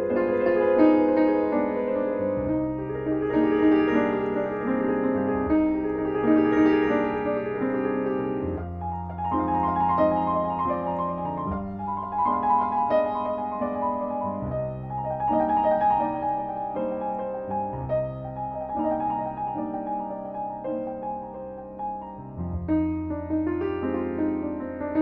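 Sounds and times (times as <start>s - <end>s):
slow solo piano piece: 0.0s - 25.0s.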